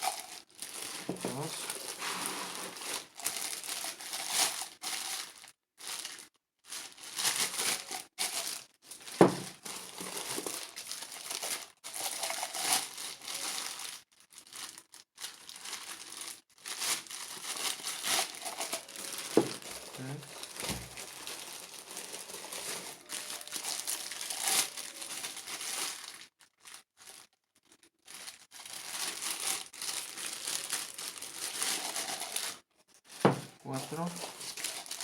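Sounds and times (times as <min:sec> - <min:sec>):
packaging rustling and crinkling: 0:00.0 - 0:35.0.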